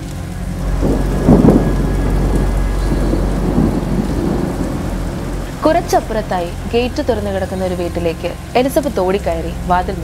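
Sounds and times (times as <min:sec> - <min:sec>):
low rumble of thunder: 0:00.0 - 0:08.6
heavy rain pouring: 0:00.0 - 0:10.0.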